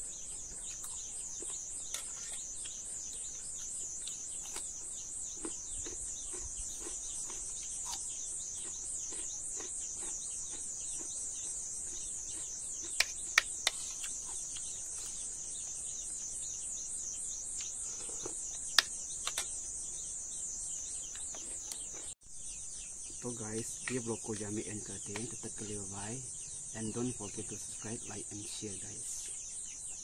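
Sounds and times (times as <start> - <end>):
pulsing insect chorus: 0.0 - 30.0.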